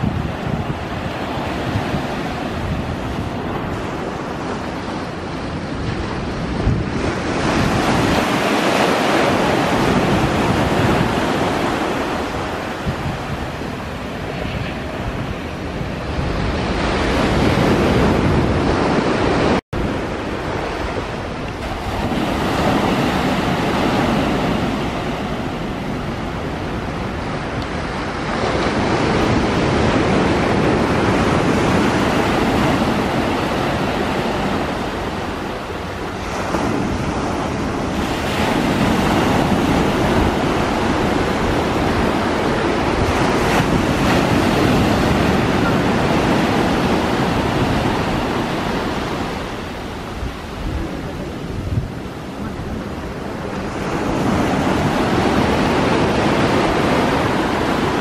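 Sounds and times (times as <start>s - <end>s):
surf rushing: 0.0s - 58.0s
wind buffeting microphone: 0.0s - 58.0s.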